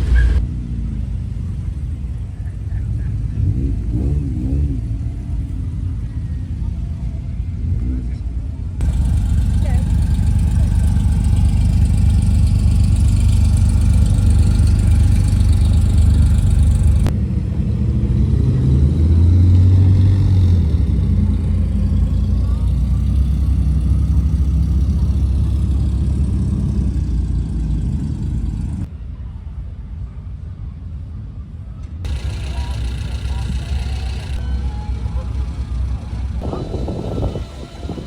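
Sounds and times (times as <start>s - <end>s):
car engines rumbling: 0.0s - 38.0s.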